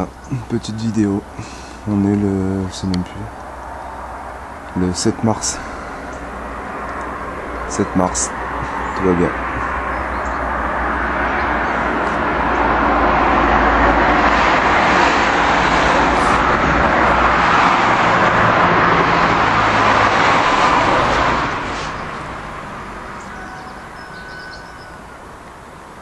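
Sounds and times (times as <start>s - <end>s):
passing vehicle rushing: 0.0s - 26.0s.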